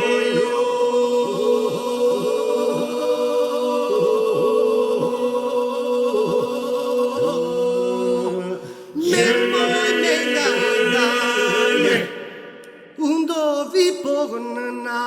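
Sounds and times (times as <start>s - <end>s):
held vocal drone: 0.0s - 13.1s
voices singing folk song: 0.0s - 13.6s.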